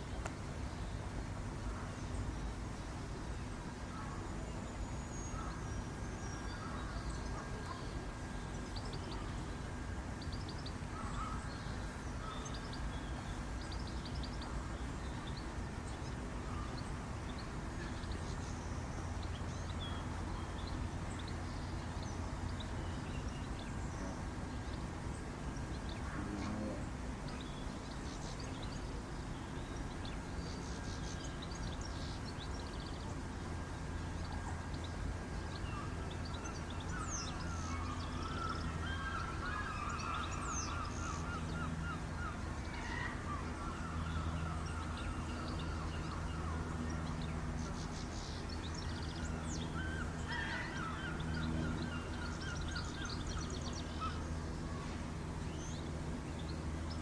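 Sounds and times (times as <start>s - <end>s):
faint constant high tone: 0.0s - 57.0s
steady background hum: 0.0s - 57.0s.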